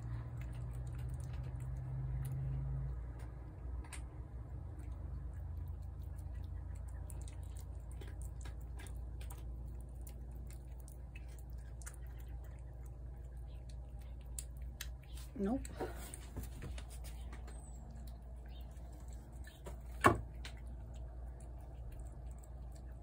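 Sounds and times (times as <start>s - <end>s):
cat eating wet food: 0.0s - 23.0s
low background rumble: 0.0s - 23.0s.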